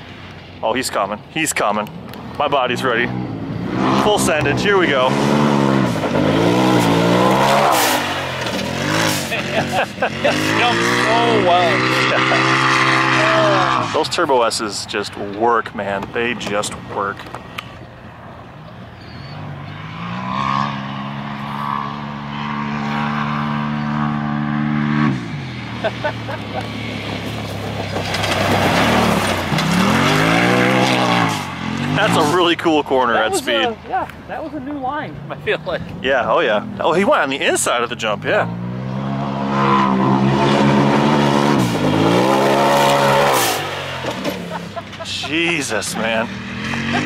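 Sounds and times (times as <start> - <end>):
turbocharged engine revving: 2.4 - 15.1, 19.4 - 33.8, 36.2 - 47.0.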